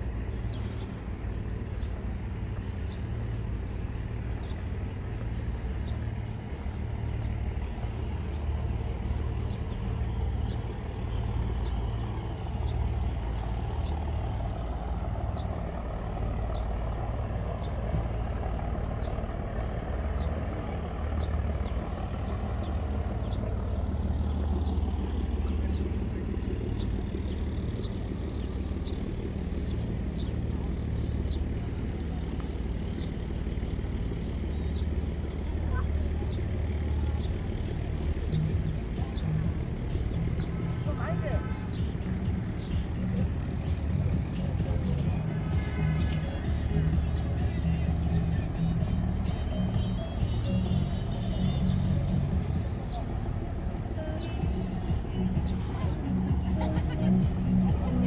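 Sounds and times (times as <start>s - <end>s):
traffic rumble: 0.0s - 58.0s.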